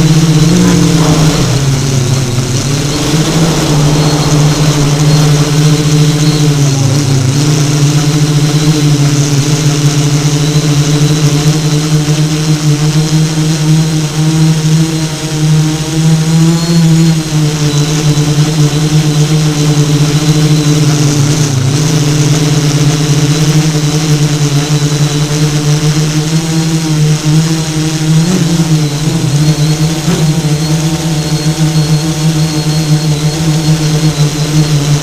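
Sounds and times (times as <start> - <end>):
drone motors whirring: 0.0 - 35.0.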